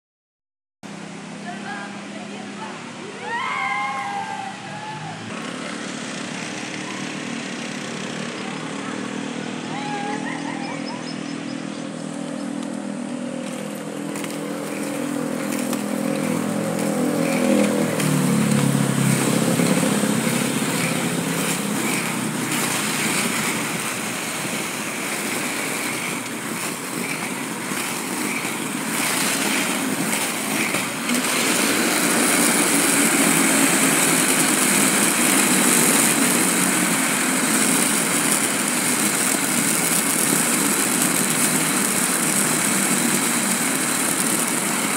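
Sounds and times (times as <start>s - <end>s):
engine hum passing: 0.9s - 44.9s
inline skate wheels rolling: 3.3s - 44.9s.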